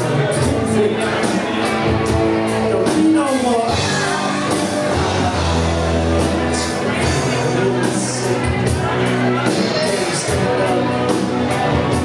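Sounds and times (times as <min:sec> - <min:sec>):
drums: 0:00.0 - 0:12.0
electric guitars: 0:00.0 - 0:12.0
keyboards: 0:00.0 - 0:12.0
person singing lead vocal: 0:00.0 - 0:12.0.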